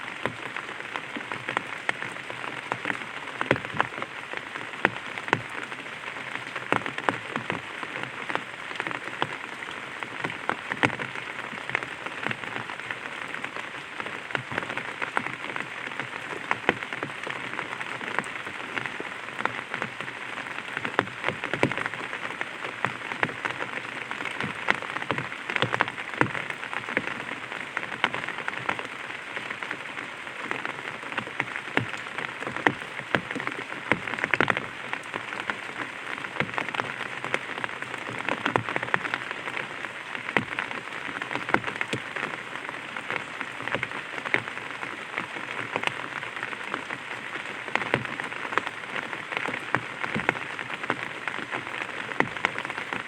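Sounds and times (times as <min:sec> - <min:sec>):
rain on an umbrella: 0:00.0 - 0:53.0
raindrops tapping umbrella canopy: 0:00.0 - 0:53.0.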